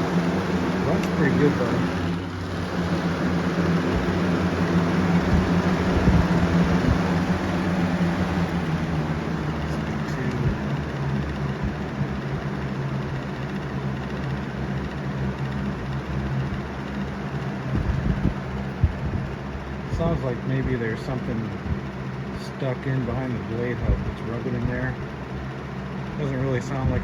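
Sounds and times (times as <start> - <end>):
box fan running: 0.0 - 27.0
fan chattering rubbing noise: 0.0 - 27.0.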